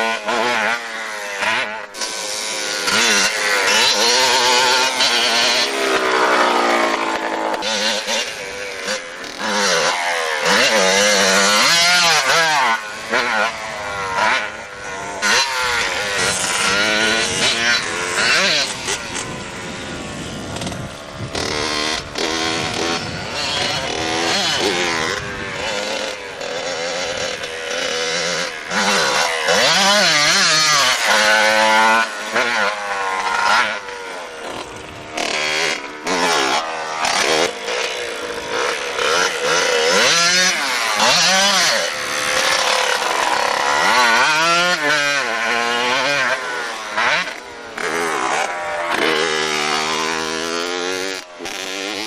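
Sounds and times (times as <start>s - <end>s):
motorcycle engines revving past: 0.0s - 52.0s.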